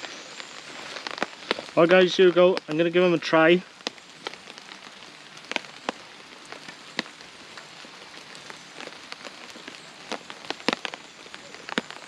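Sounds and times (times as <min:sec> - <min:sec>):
rain on a tarp: 0:00.0 - 0:12.0.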